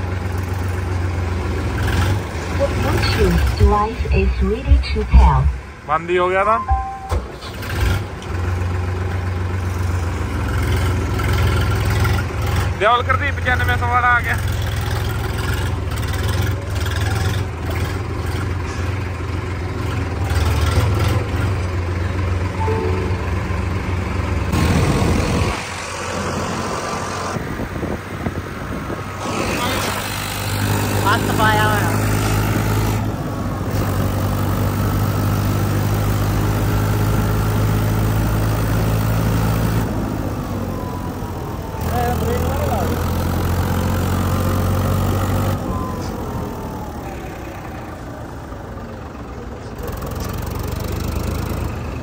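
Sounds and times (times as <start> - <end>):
tractor diesel engine drone: 0.0 - 52.0.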